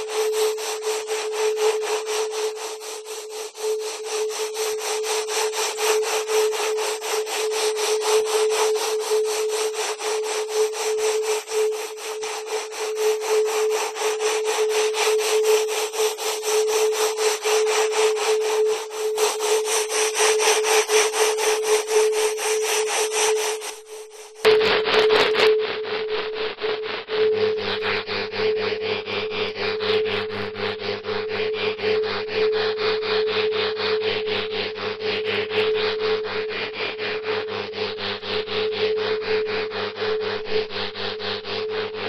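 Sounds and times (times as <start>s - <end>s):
pulsing rasping noise: 0.0s - 42.0s.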